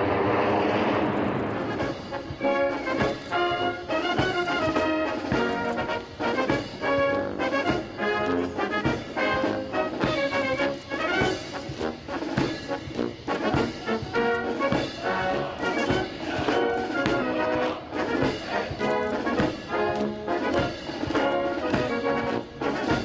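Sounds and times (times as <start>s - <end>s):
brass band playing a march: 0.0s - 23.0s.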